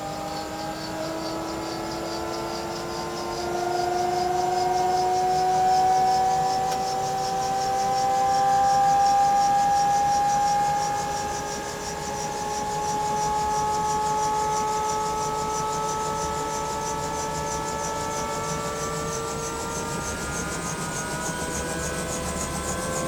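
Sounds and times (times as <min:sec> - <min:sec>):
helicopter turbine whine rising: 0:00.0 - 0:23.0.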